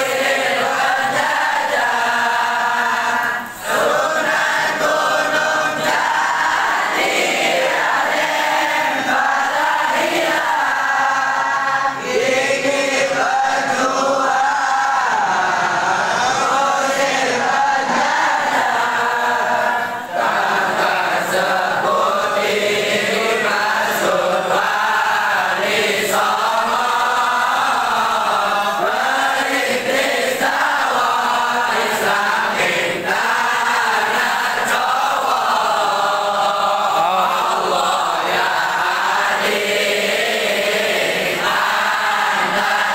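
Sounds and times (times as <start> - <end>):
men chanting together: 0.0 - 42.9.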